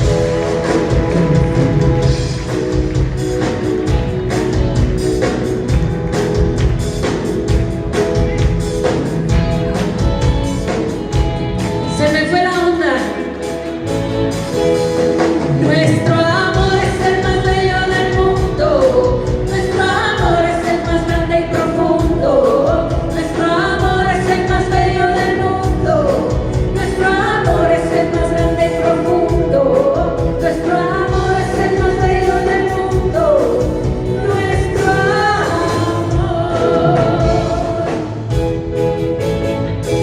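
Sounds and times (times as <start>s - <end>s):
live band music: 0.0s - 40.0s.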